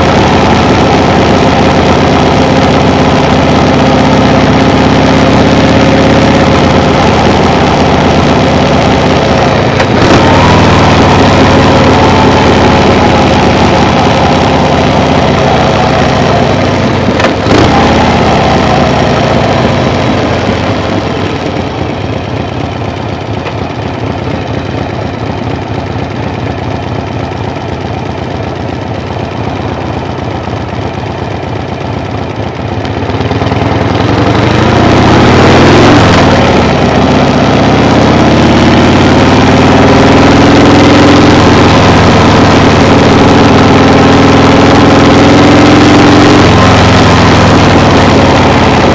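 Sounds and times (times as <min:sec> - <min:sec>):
vehicle engine running: 0:00.0 - 0:48.9.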